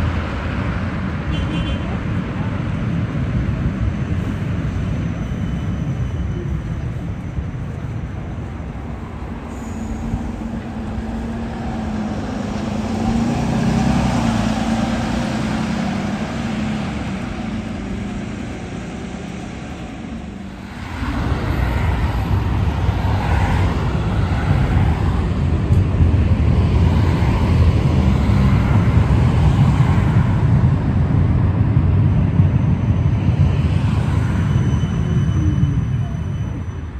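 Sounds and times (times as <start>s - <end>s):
cars driving past: 0.0s - 35.9s
tram electric hum and rolling: 0.0s - 36.9s.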